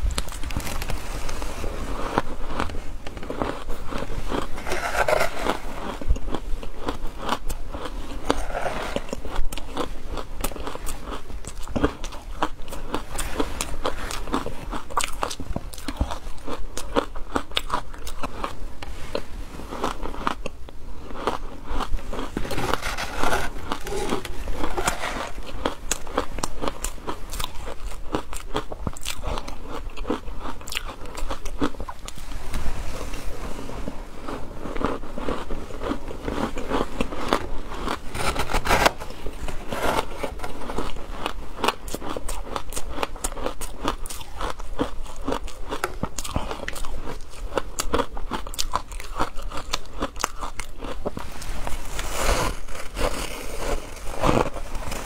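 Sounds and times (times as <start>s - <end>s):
person crunching ice: 0.2s - 19.2s, 19.8s - 32.2s, 34.2s - 55.0s.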